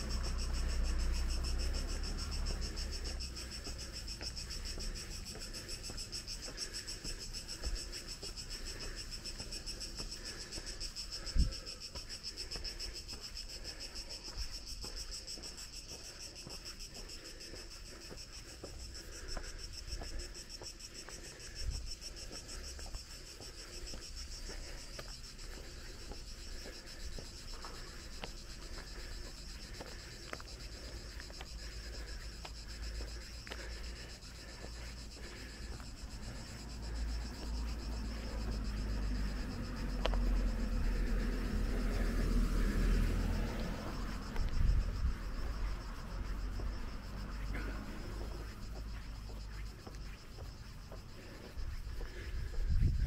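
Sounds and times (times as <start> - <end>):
insects chorus: 0.0 - 53.0.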